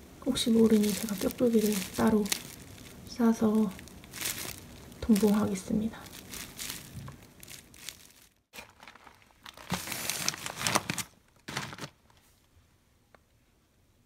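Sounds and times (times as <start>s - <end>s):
bubble wrap crinkling: 0.2s - 12.3s
plastic packaging crinkling: 0.3s - 12.3s.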